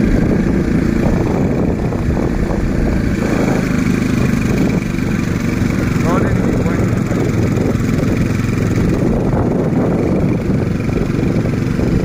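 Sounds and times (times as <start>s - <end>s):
motorbike engine droning: 0.0s - 12.0s.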